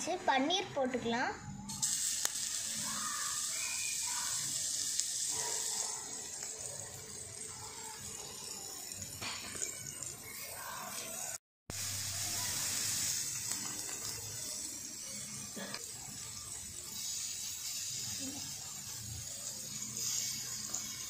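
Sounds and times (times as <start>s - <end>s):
cheese sizzling in hot oil: 1.7s - 21.0s.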